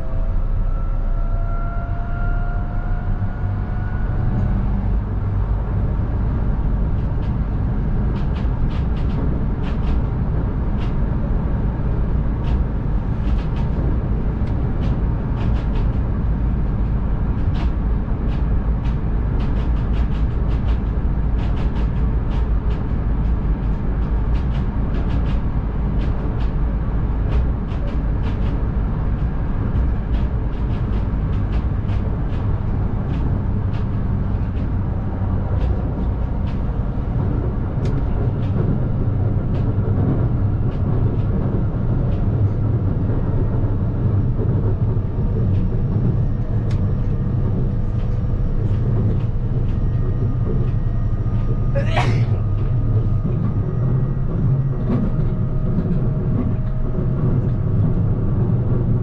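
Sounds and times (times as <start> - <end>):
train rumbling through tunnel: 0.0 - 59.0.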